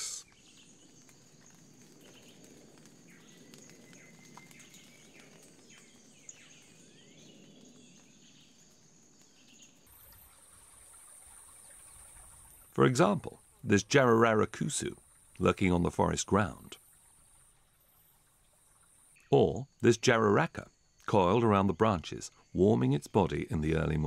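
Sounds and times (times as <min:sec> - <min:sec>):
faint bird chirps: 0:00.0 - 0:24.0
high insect drone: 0:00.0 - 0:24.0.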